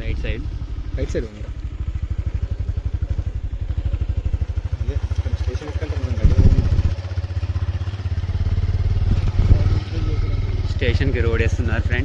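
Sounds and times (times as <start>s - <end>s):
vehicle engine pulsing: 0.0s - 12.0s.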